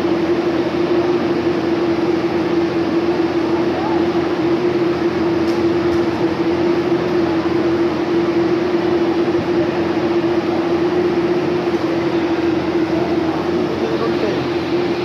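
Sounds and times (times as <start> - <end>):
fans rushing: 0.0 - 15.0
machine hum: 0.0 - 15.0.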